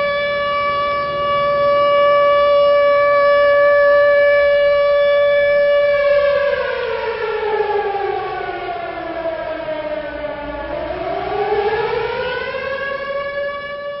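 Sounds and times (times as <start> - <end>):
civil defense siren: 0.0 - 14.0.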